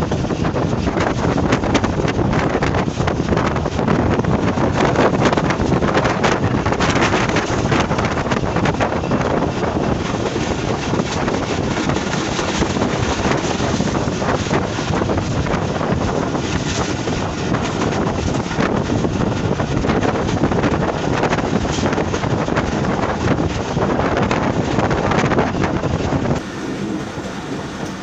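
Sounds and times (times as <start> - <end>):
train rumbling and clattering on track: 0.0 - 28.0
wind buffeting microphone: 0.0 - 28.0.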